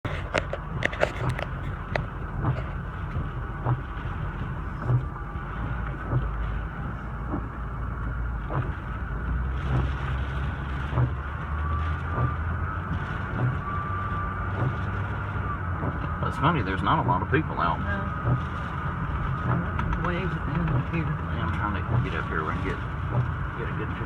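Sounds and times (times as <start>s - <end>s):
car engine rumble from inside: 0.0s - 24.0s.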